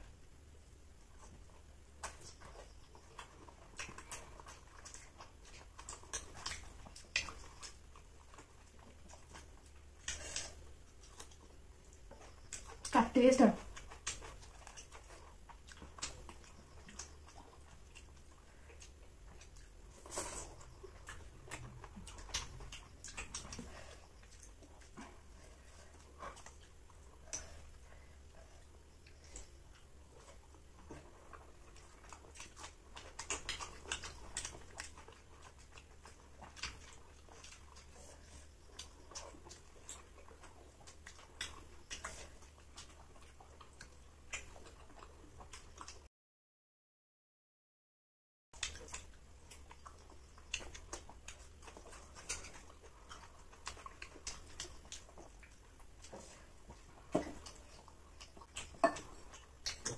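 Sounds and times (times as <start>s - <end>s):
faint chewing: 0.0s - 46.1s, 48.6s - 59.9s.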